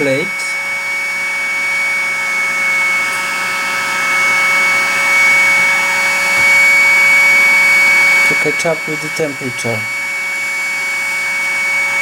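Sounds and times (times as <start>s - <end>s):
high fan whine: 0.0s - 12.0s
hot air blower rushing: 0.0s - 12.0s.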